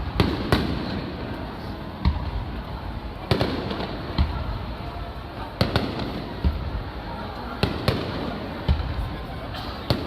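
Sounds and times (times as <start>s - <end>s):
fireworks bursting with rumble: 0.0s - 10.0s.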